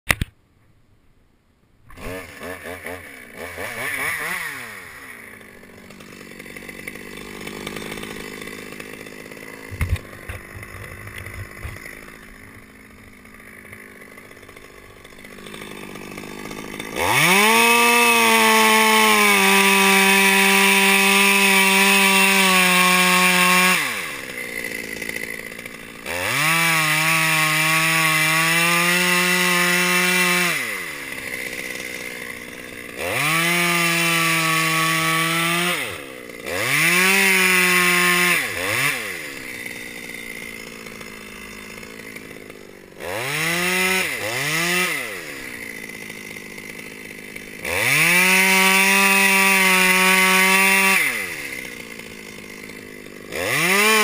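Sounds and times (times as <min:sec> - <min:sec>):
chainsaw idling and revving: 0:01.9 - 0:54.0.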